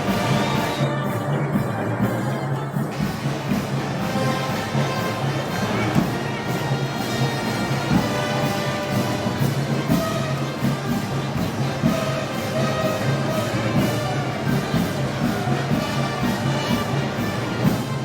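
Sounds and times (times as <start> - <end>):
held brass notes: 0.0 - 18.0
steady drum beat: 0.0 - 18.0.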